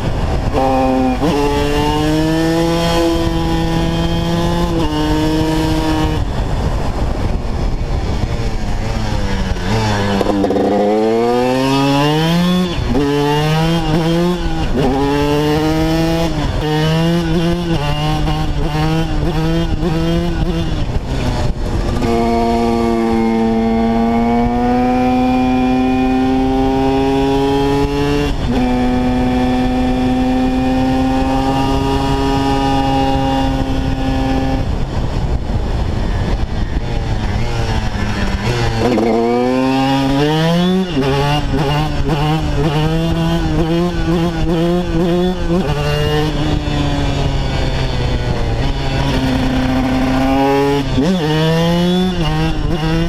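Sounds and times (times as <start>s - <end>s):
two-stroke engine revving: 0.0s - 6.6s, 8.6s - 35.1s, 36.2s - 53.0s.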